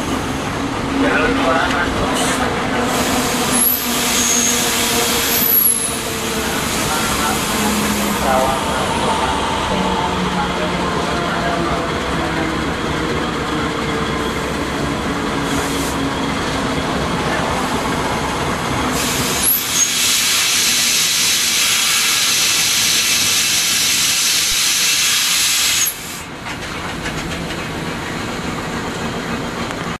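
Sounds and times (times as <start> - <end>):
locomotive engine rumble: 0.0 - 20.4, 26.0 - 30.0.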